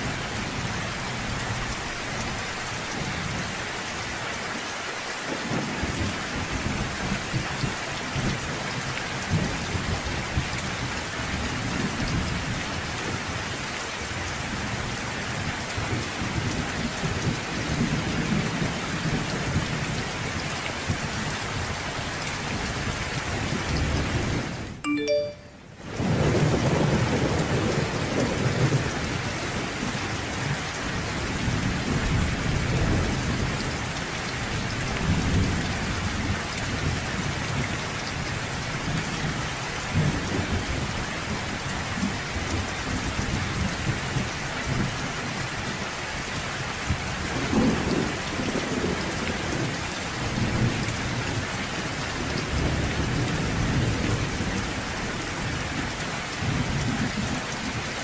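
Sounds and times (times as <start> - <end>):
rain pouring: 0.0 - 58.0.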